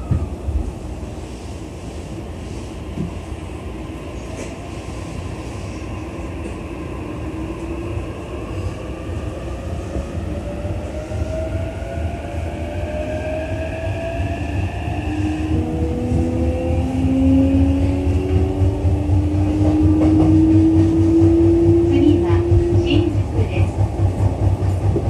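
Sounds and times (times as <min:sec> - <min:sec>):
train low rumble: 0:00.0 - 0:25.0.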